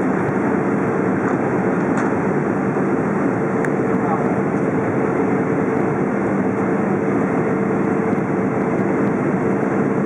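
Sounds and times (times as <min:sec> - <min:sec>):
jet airliner cabin noise: 0:00.0 - 0:10.0.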